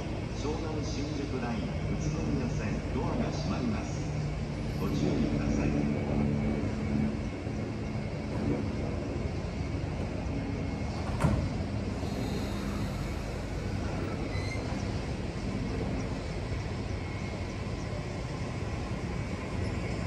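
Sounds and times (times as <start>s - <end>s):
electric train rumble and hum: 0.0s - 20.0s.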